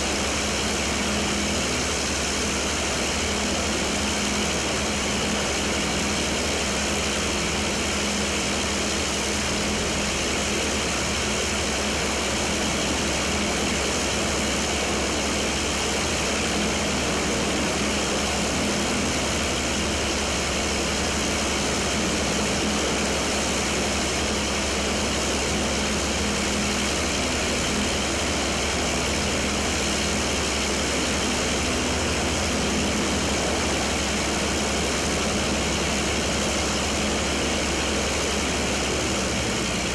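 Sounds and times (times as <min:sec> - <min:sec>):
piston aircraft engine running: 0:00.0 - 0:39.9.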